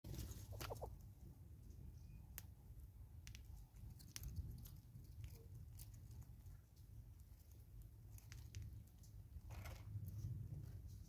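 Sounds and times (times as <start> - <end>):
squirrel clicking while feeding: 0.5 - 10.2.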